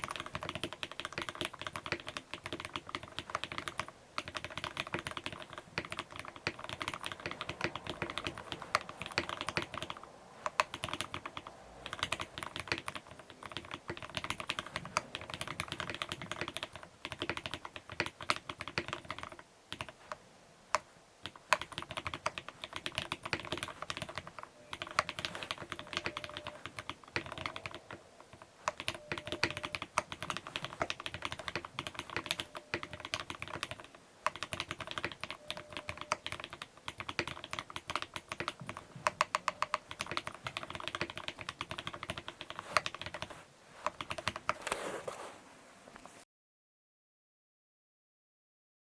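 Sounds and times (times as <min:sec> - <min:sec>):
mechanical keyboard typing: 0:00.0 - 0:44.8.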